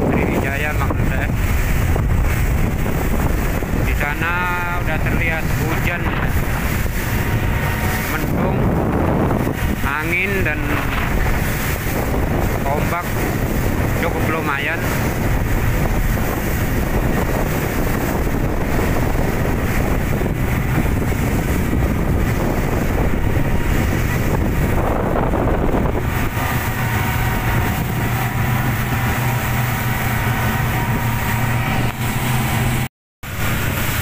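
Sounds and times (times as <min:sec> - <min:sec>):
boat engine hum: 0:00.0 - 0:34.0
water rushing past hull: 0:00.0 - 0:34.0
wind buffeting microphone: 0:00.0 - 0:34.0.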